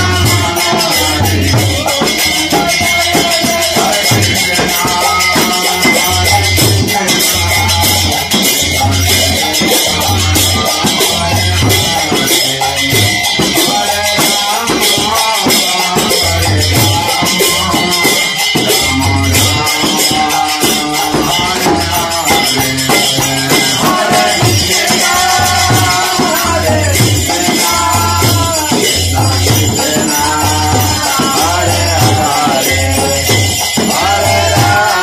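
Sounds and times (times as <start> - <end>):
rattling percussion music: 0.0 - 35.0.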